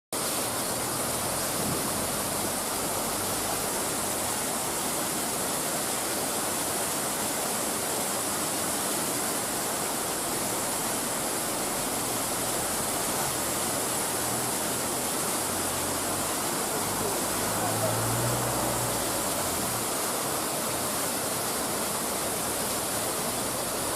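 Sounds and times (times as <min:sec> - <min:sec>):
waterfall rushing: 0:00.2 - 0:23.9.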